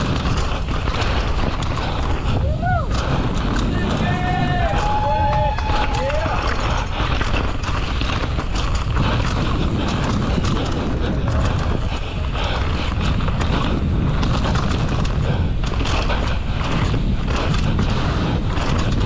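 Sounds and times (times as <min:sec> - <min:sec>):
bike tyres on dirt and rocks: 0:00.0 - 0:19.0
wind buffeting microphone: 0:00.0 - 0:19.0.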